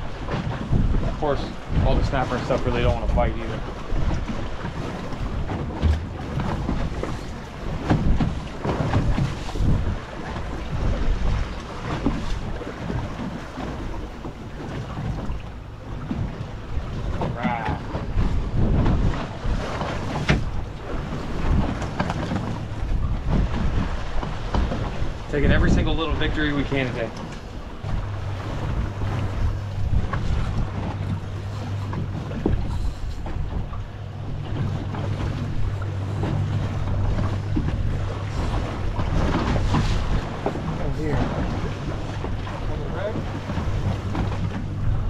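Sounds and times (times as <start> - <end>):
choppy sea water: 0.0 - 45.0
outboard motors idling: 0.0 - 45.0
wind buffeting microphone: 0.0 - 45.0.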